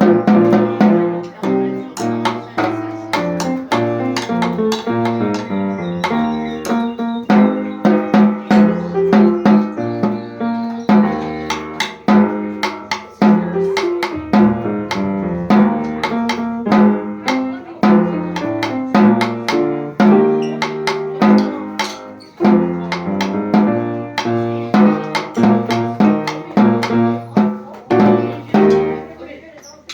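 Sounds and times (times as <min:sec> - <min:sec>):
snare drum strokes: 0:00.0 - 0:29.0
melodic ensemble accompaniment: 0:00.0 - 0:29.2.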